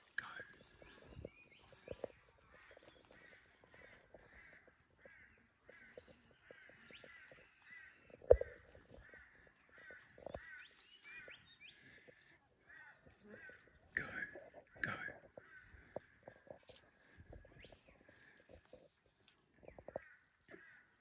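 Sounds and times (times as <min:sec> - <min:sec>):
faint ticks and rustles: 0:00.0 - 0:21.0.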